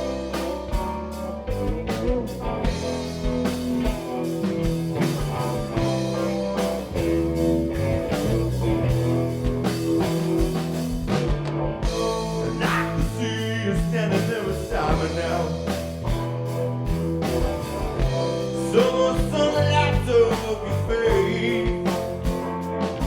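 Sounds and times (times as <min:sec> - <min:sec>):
blues-rock band playing: 0:00.0 - 0:23.0
drum kit steady beat: 0:00.0 - 0:23.0
electric guitar: 0:00.0 - 0:23.0.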